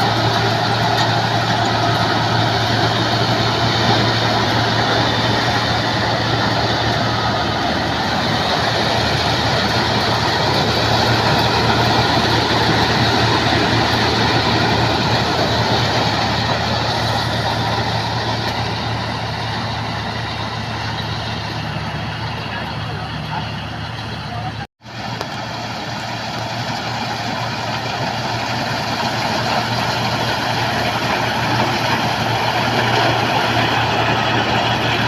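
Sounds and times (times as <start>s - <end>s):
combine harvester running: 0.0s - 35.0s.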